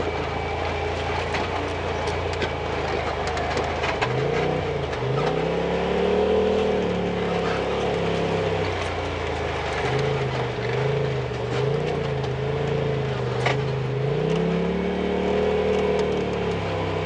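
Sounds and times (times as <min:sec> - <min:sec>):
off-road vehicle engine: 0:00.0 - 0:17.0.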